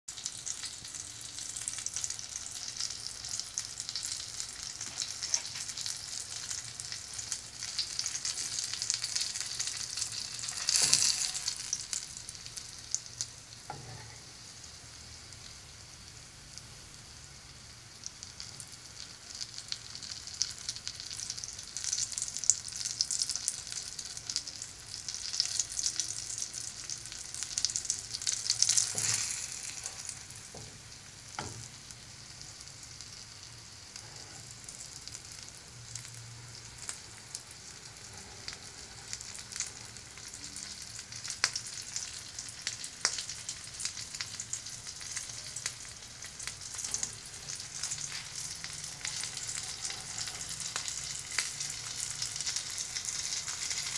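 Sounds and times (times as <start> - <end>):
food frying in hot oil: 0.1 - 53.9.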